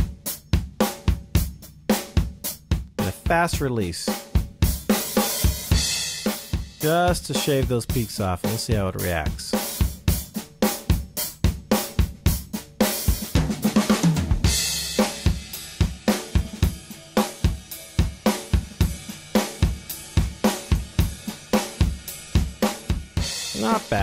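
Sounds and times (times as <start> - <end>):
rock drum kit groove: 0.0 - 24.0.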